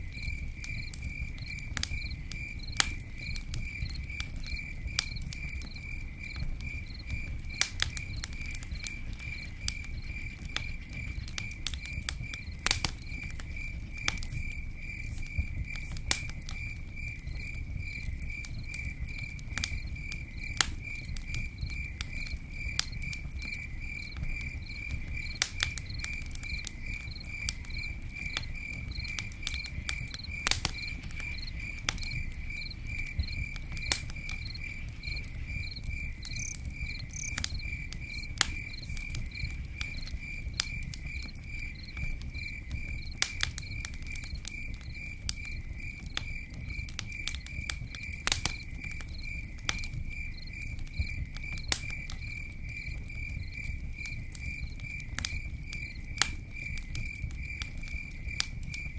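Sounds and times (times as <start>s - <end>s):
campfire crackling and popping: 0.0s - 58.9s
cricket chirping: 0.0s - 58.9s.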